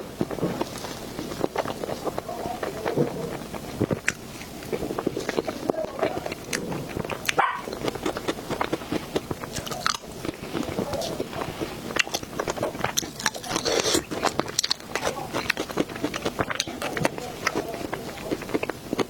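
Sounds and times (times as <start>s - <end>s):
crunches while eating: 0.0s - 19.0s
person chewing: 0.0s - 19.0s
wet mouth clicks: 0.3s - 19.0s.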